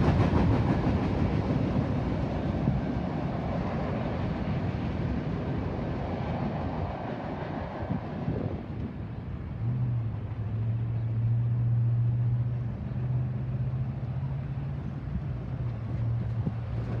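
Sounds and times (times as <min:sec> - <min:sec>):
low engine hum: 0:00.0 - 0:17.0
vehicles crossing railroad tracks: 0:00.0 - 0:17.0.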